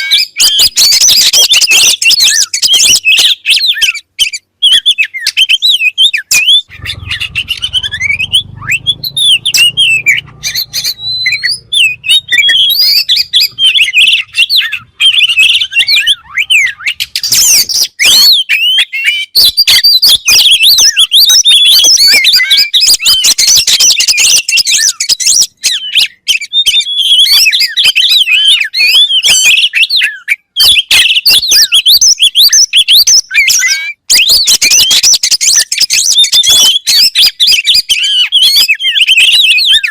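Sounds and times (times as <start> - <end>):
bird song whistles and chirps: 0.0 - 39.9.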